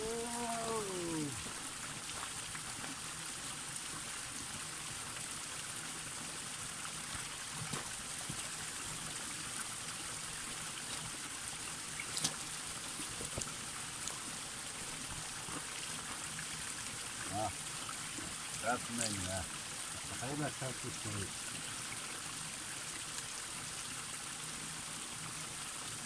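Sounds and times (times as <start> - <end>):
water trickling over rock: 0.0 - 26.0.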